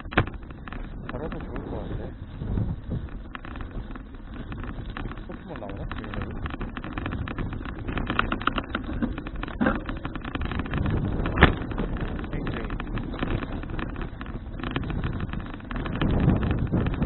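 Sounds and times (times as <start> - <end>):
bicycle rattle: 0.0 - 17.0
road noise: 0.0 - 17.0
wind buffeting microphone: 0.0 - 17.0.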